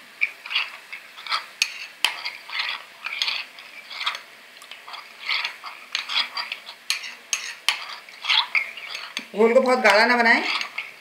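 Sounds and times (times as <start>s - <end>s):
metal spoon stirring in glass bowl: 0.4s - 11.0s.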